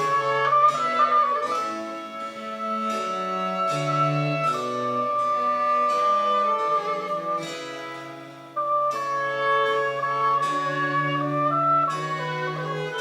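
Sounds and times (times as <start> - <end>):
bowed strings: 0.0 - 13.0
flute holding long notes: 0.0 - 13.0.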